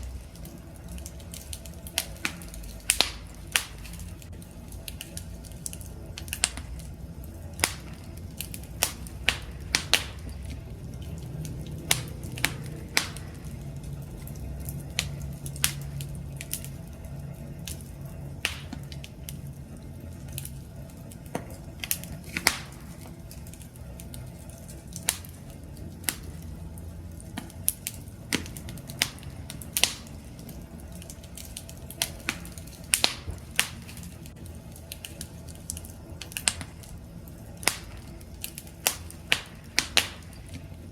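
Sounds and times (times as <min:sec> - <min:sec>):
campfire wood crackling and popping: 0:00.0 - 0:40.9
low rumble of flames: 0:00.0 - 0:40.9.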